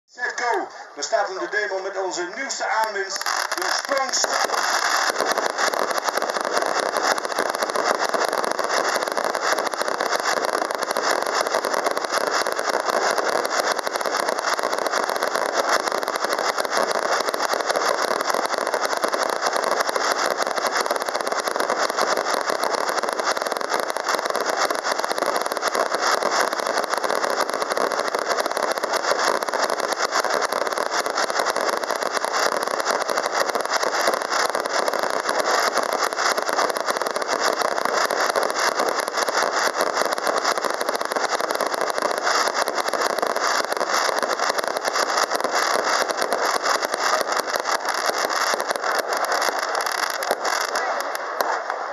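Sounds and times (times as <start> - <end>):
firework salute cakes firing: 0.2 - 51.9
loud bangs and crackling: 2.8 - 51.9.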